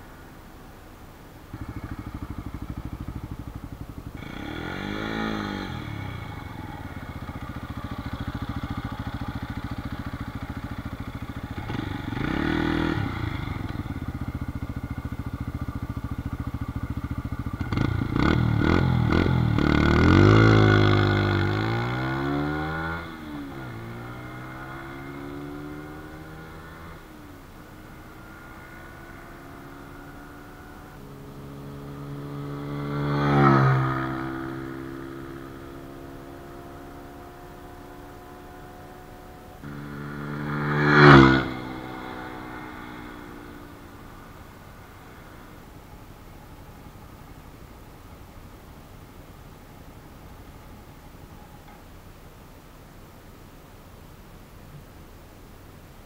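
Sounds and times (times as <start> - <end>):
motorcycle engine idling and revving: 0.0 - 52.4
motorcycle pulling away: 1.4 - 51.8.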